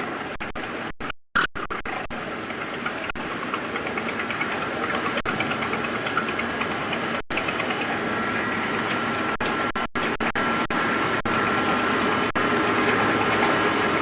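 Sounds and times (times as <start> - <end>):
faint steady whine: 0.0 - 14.0
machine running with fast ticking: 0.0 - 14.0.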